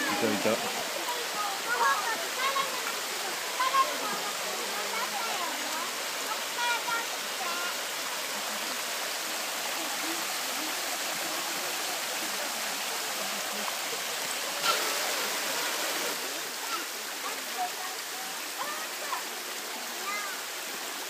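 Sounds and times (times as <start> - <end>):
waterfall and stream running: 0.0 - 21.0.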